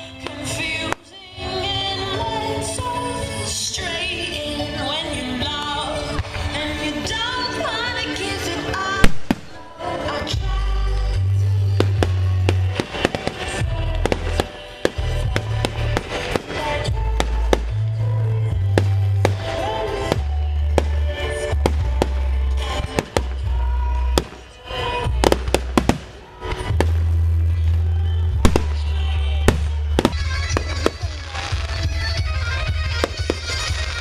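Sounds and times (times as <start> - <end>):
music with heavy bass: 5.7 - 34.0.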